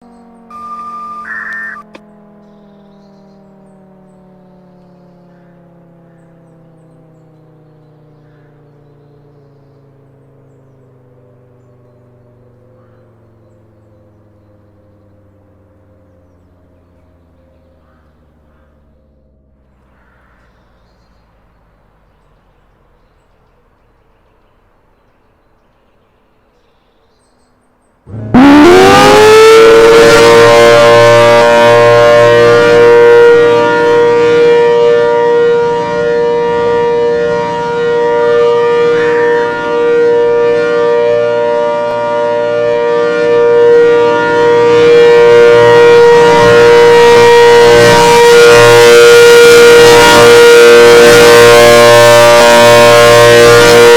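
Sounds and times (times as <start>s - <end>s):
outdoor warning siren: 0.0s - 19.9s, 28.1s - 53.9s.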